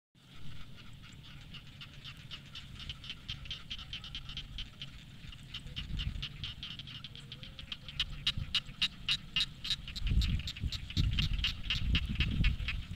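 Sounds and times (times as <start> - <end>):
frogs croaking in chorus: 0.2 - 12.9.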